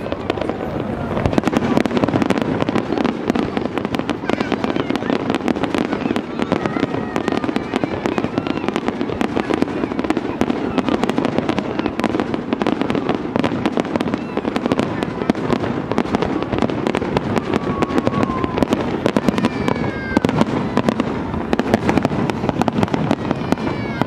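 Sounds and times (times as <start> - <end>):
continuous rumble: 0.0 - 24.0
fireworks bursting: 0.0 - 24.0.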